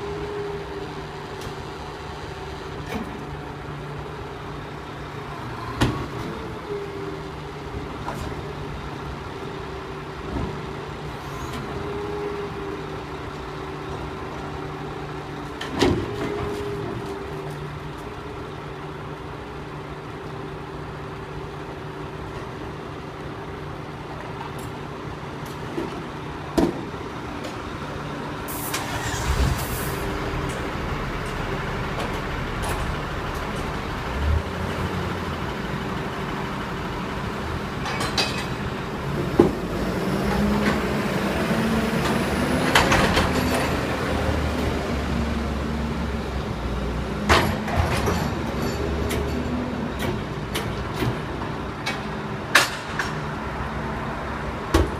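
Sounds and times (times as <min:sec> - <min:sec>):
garbage truck diesel engine: 0:00.0 - 0:54.9.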